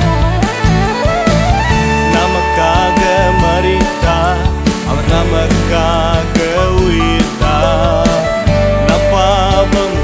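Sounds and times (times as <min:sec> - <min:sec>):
pop-rock band instrumental: 0:00.0 - 0:10.0.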